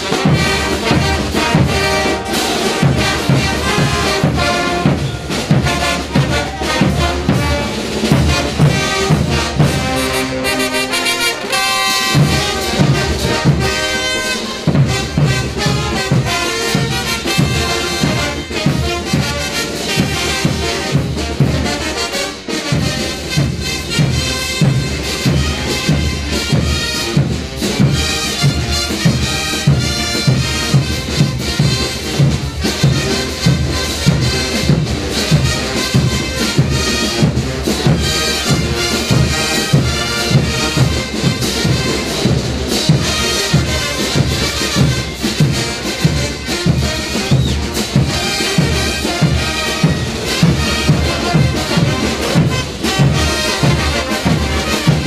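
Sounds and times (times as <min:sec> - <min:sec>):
brass band playing dance music: 0:00.0 - 0:55.0.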